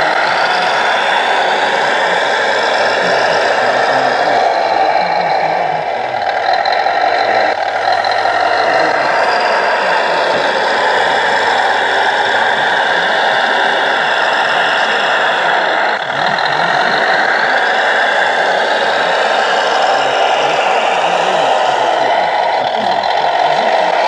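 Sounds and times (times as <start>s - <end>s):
diesel engine sound: 0.0s - 24.0s
rising and falling whines: 0.0s - 24.0s.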